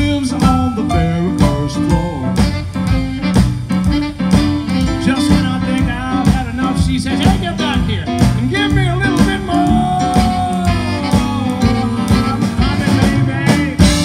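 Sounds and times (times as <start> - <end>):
live blues band playing: 0.0 - 14.0.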